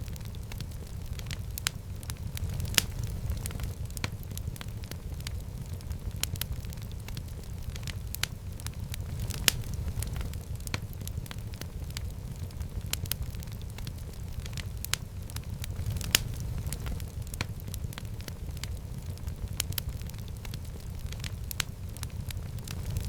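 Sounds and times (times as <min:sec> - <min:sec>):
fire crackles and pops: 0:00.0 - 0:23.0
wood fire rumbling: 0:00.0 - 0:23.0.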